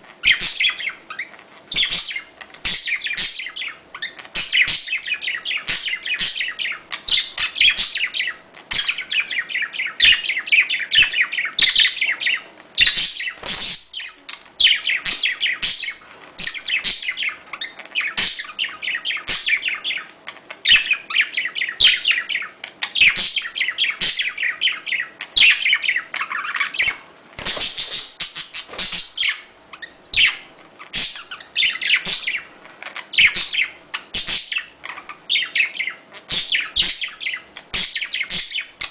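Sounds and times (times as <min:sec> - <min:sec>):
budgerigars chattering and warbling: 0:00.2 - 0:38.9.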